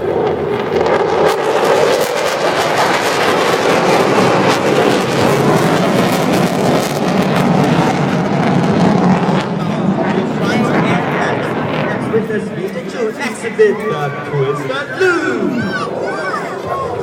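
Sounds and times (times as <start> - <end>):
fighter jet engine roar: 0.0 - 17.0.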